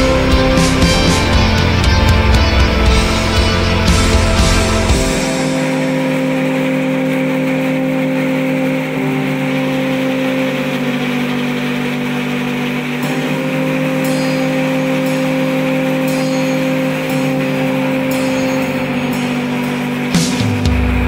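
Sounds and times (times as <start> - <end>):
background music low chords: 0.0 - 21.0.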